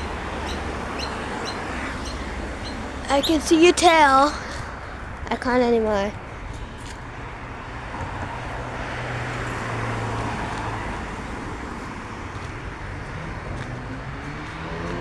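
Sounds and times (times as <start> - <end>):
vehicle passing: 0.0 - 15.0.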